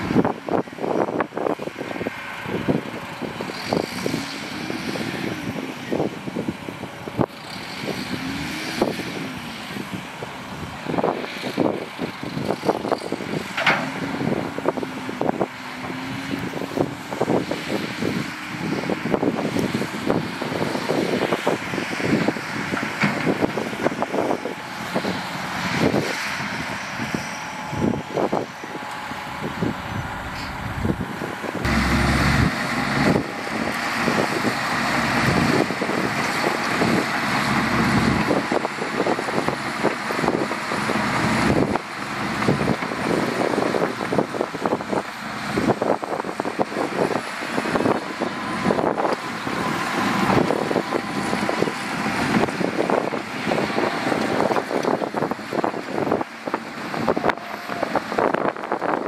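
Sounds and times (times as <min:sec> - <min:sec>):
bulldozer diesel pushing soil: 0:00.0 - 0:59.0
tipper truck diesel engine: 0:00.0 - 0:59.0.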